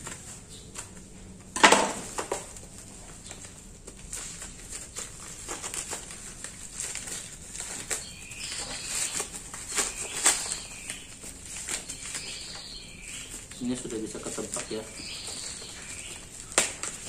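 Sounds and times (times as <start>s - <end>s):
plastic packaging rustling: 0.0s - 17.0s.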